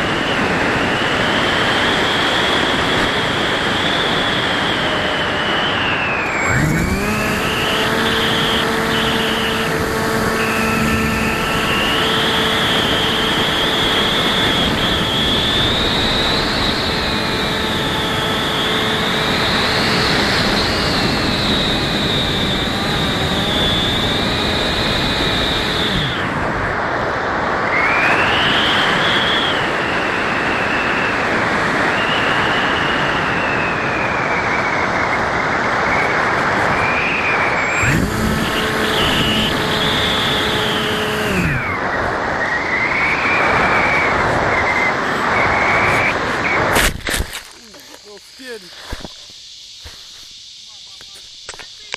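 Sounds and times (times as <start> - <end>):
electric motor and propeller whine: 0.0 - 51.9.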